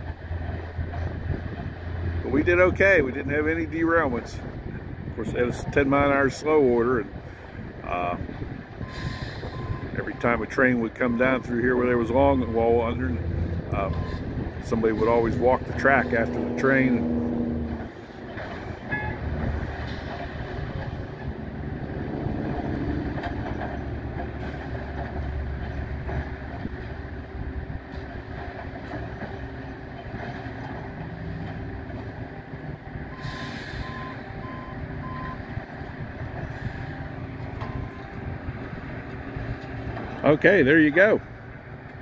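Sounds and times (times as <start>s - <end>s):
track machinery rumbling: 0.0s - 42.0s.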